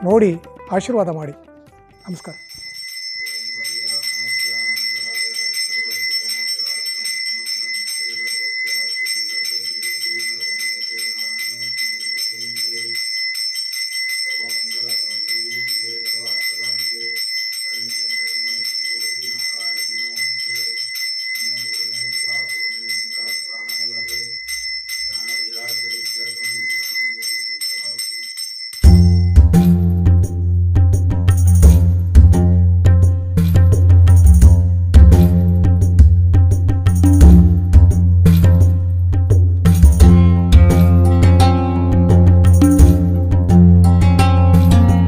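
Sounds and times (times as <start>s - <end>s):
hand bell ringing rapidly: 2.0s - 30.5s, 31.2s - 45.0s.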